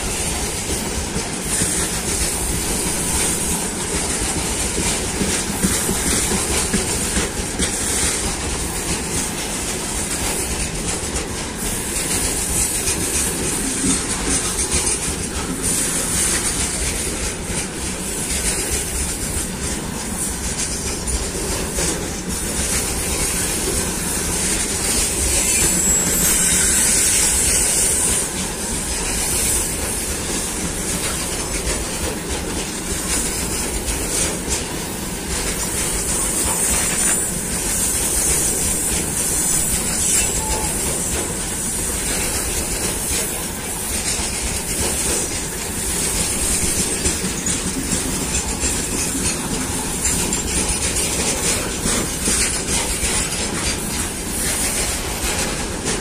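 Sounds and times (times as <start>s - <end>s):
high hiss from train wheels: 0.0s - 56.0s
train wheels rumbling and clattering: 0.0s - 56.0s.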